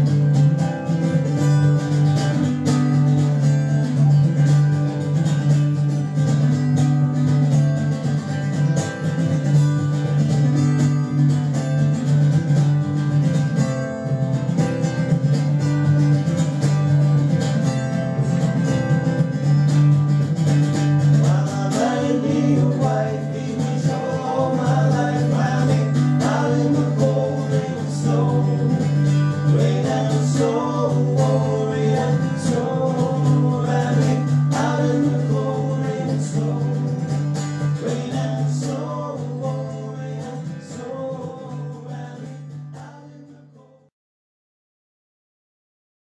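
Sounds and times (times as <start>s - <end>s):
acoustic guitars playing folk music: 0.0s - 43.8s.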